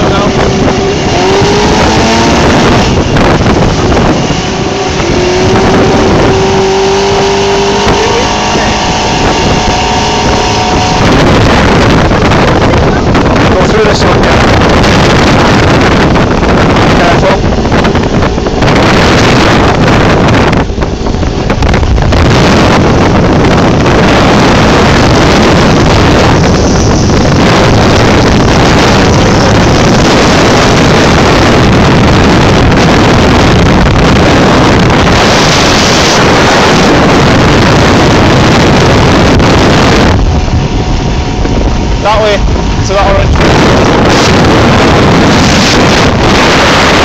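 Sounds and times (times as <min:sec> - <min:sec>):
speedboat engine running: 0:00.0 - 0:47.0
wind rushing over microphone: 0:00.0 - 0:47.0.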